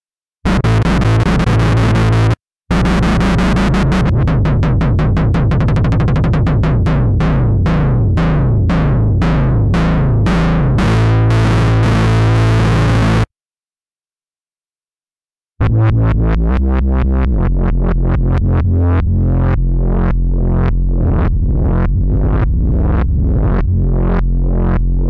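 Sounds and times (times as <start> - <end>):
synthesizer bass notes: 0.4 - 13.3, 15.6 - 25.0.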